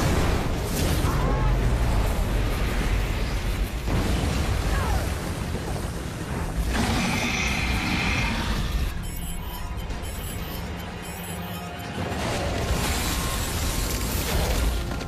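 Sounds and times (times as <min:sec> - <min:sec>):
dramatic orchestral score: 0:00.0 - 0:15.0.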